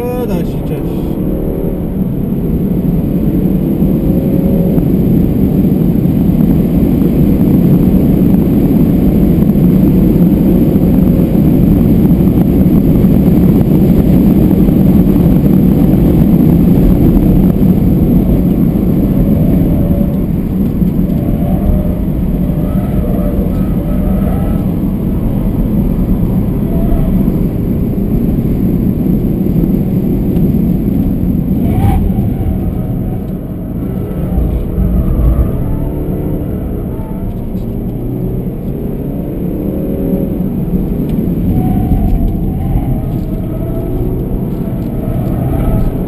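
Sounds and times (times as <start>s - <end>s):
diesel engine accelerating hard: 0.0s - 46.0s
road and wind noise: 0.0s - 46.0s.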